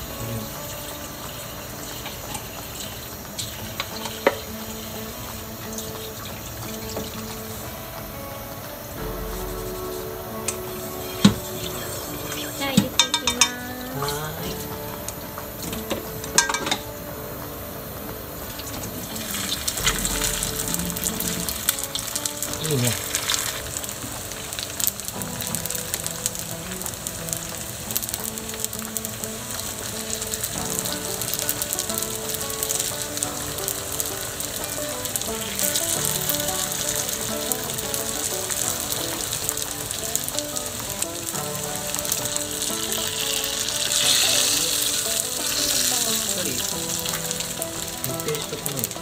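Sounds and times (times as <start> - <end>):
dumplings sizzling in oil: 0.0 - 49.0.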